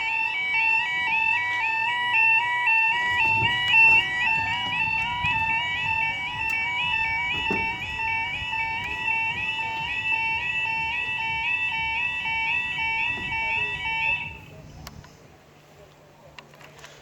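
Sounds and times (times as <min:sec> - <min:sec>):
level crossing alarm: 0:00.0 - 0:14.6.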